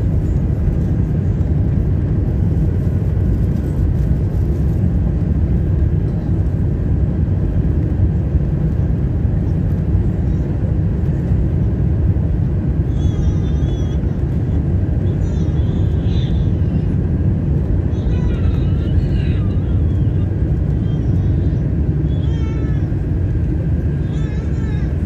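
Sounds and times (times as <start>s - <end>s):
jet engine cabin rumble: 0.0s - 25.0s.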